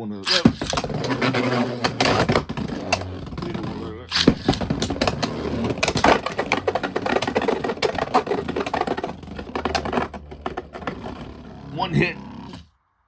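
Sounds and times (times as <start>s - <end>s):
spinning tops whirring and clattering: 0.2s - 11.8s
rapid clicks and knocks: 0.2s - 12.6s.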